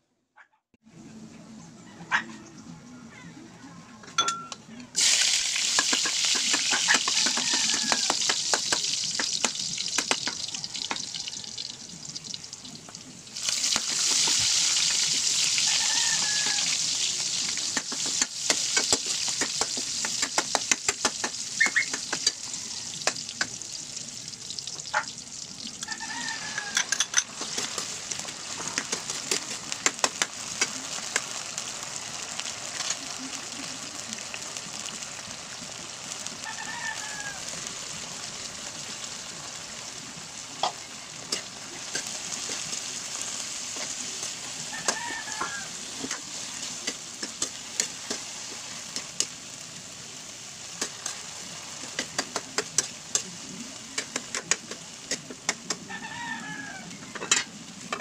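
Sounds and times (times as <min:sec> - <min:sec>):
garlic and onions sizzling in oil: 0:05.0 - 0:58.0.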